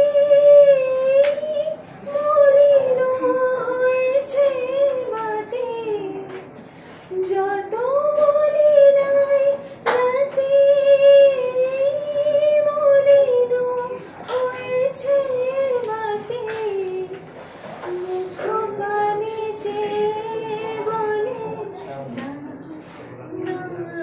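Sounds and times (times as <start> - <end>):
woman singing unaccompanied: 0.0 - 6.5, 7.1 - 17.2, 17.8 - 22.5, 23.3 - 24.0.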